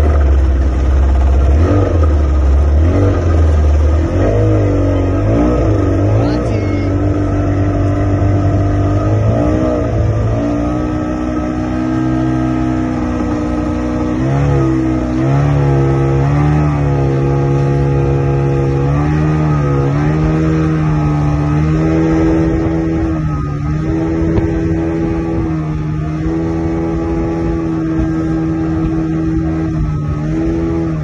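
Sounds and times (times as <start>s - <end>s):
boat engine running at speed: 0.0s - 31.0s.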